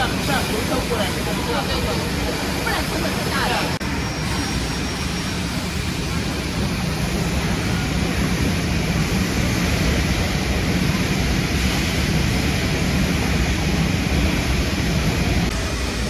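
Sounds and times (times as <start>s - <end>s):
factory machinery running: 0.0s - 16.0s.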